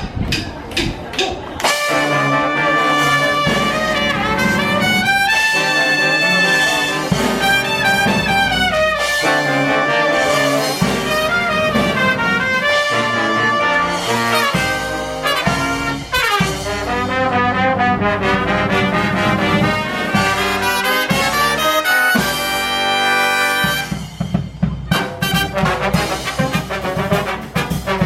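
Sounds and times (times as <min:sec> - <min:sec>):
brass band playing: 0:01.6 - 0:28.0.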